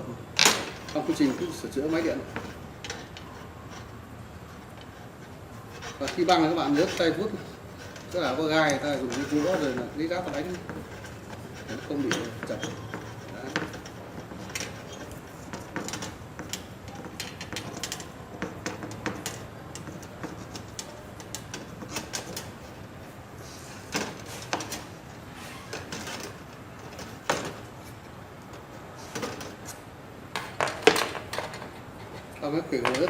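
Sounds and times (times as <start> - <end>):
tape clicking and rustling: 0.4 - 33.0.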